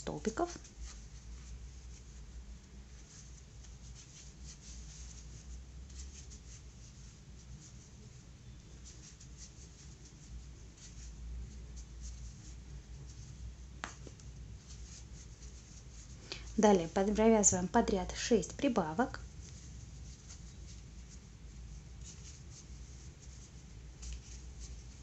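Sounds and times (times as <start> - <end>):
crochet hook rustling in yarn: 0.0 - 25.0
low steady hum: 0.0 - 25.0.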